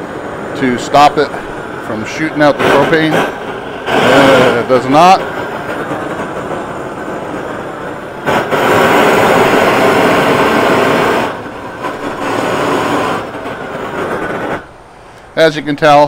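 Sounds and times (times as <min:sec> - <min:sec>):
propane torch flame rushing: 0:00.0 - 0:15.4.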